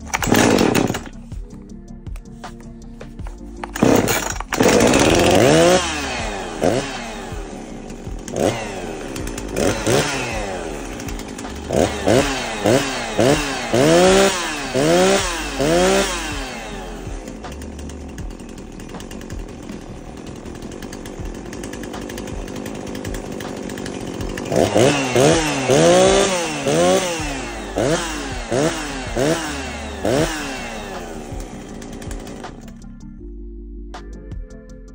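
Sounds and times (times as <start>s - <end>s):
chainsaw engine revving: 0.0s - 1.4s, 3.3s - 32.9s.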